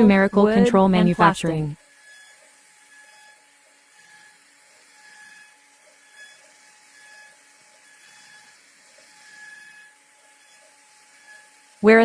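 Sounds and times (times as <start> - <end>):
cnc machine motor whines: 0.0 - 12.0.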